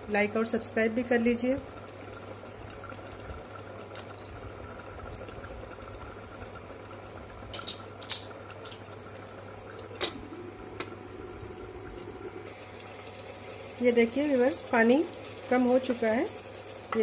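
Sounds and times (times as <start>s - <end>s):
liquid bubbling in pot: 0.0s - 17.0s.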